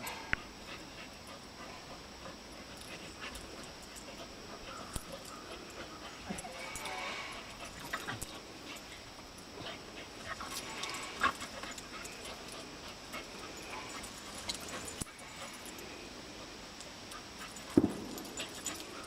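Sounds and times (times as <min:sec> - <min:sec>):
dogs play-fighting vocal sounds: 0:00.0 - 0:19.0.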